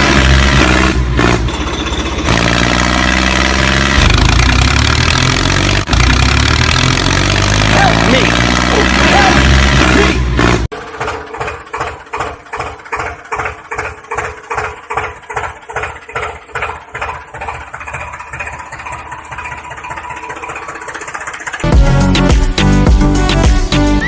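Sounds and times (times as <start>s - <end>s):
small tractor motor running: 0.0s - 21.8s.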